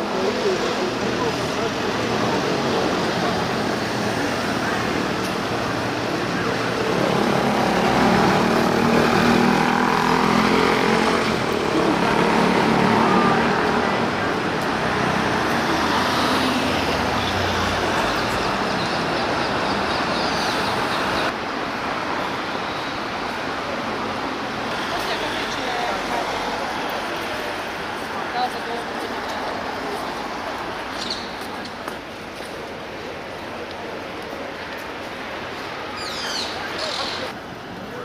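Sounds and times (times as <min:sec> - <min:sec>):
road traffic noise: 0:00.0 - 0:38.0
vehicles driving past: 0:00.0 - 0:38.0.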